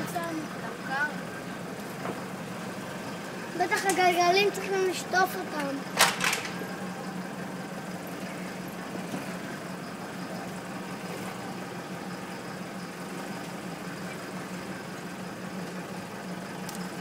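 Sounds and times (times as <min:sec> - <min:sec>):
car engine running: 0:00.0 - 0:17.0
driving noise: 0:00.0 - 0:17.0.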